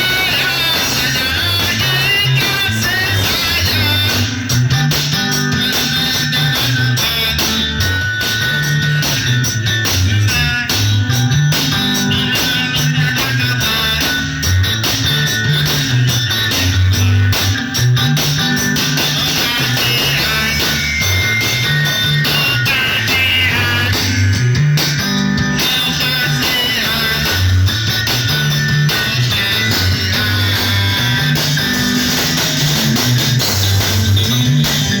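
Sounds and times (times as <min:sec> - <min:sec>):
guitars playing: 0:00.0 - 0:35.0
repeating bass line: 0:00.0 - 0:35.0.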